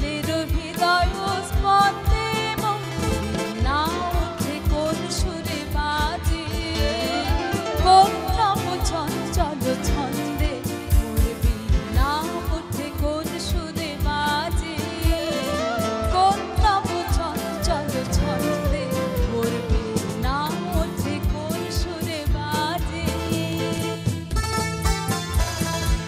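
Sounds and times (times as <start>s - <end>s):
woman singing: 0.0s - 24.4s
acoustic guitar: 0.0s - 26.0s
harmonium: 0.0s - 26.0s
keyboard: 0.0s - 26.0s
tabla beat: 0.0s - 26.0s.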